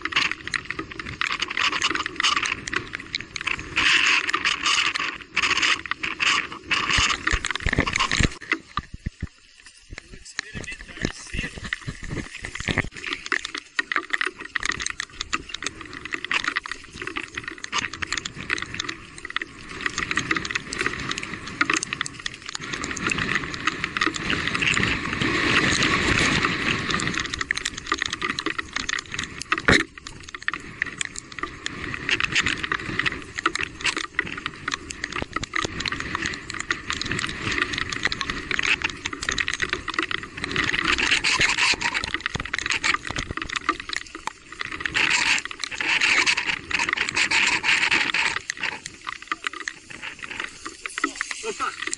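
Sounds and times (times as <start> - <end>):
bike rattling over rocks: 0.0 - 51.9
tyres through water and mud: 0.0 - 51.9.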